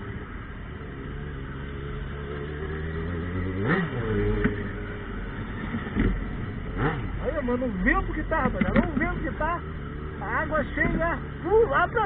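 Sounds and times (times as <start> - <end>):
motorcycle engine with loud exhaust: 0.0 - 12.0.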